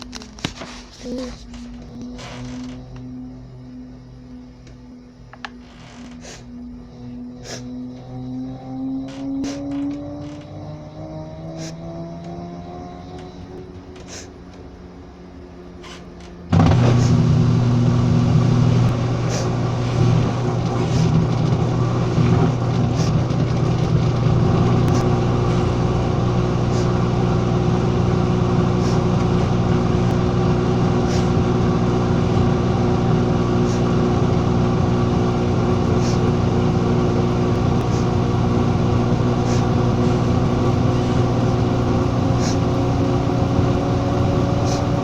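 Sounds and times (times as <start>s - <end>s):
machine motor humming: 0.0s - 45.0s.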